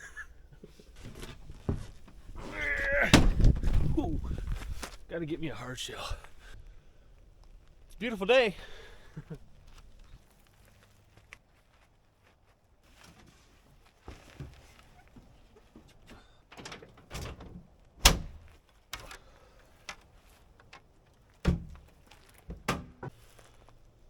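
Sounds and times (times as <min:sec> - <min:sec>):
rustling: 0:00.0 - 0:24.0.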